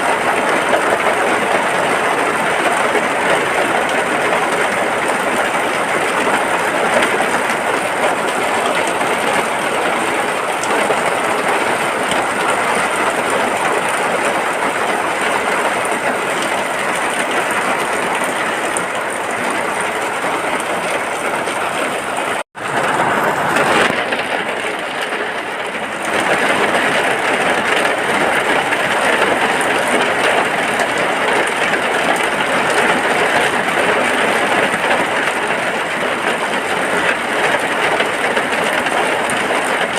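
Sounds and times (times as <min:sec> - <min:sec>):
heavy rain on a hut: 0:00.0 - 0:39.9.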